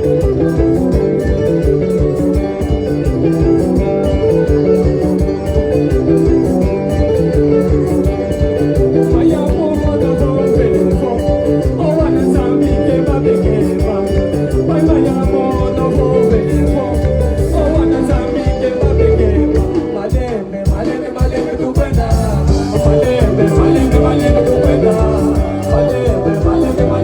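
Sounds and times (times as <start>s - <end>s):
guitar: 0.0s - 27.0s
live band music: 0.0s - 27.0s
person singing: 0.0s - 27.0s.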